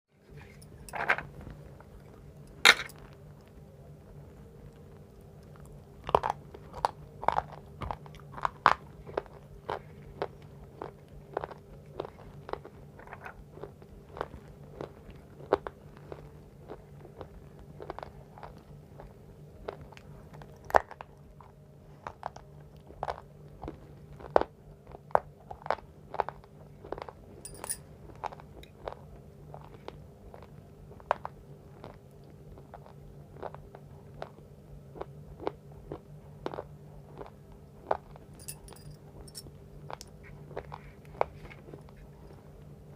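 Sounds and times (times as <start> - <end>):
faint steady hum: 0.1 - 42.9
chewing crunchy chalk: 4.4 - 38.8, 39.9 - 42.6.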